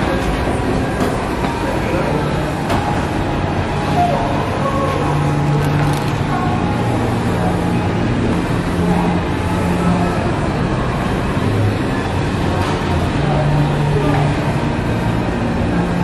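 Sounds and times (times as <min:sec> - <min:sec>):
room noise: 0:00.0 - 0:16.0.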